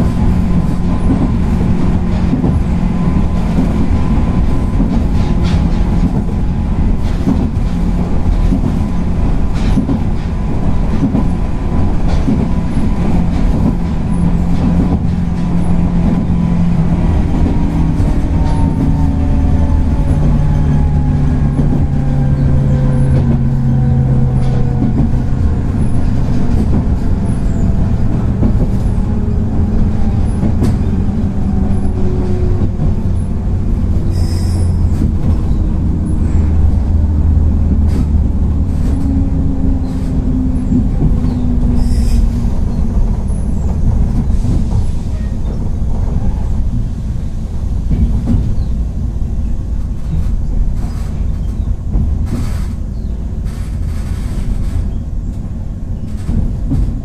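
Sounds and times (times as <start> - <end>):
rail-joint clicks: 0.0 - 57.0
train rumble: 0.0 - 57.0.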